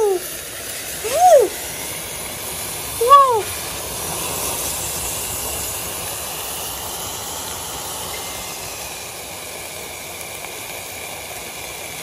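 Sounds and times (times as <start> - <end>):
firework fountain hissing: 0.0 - 12.0.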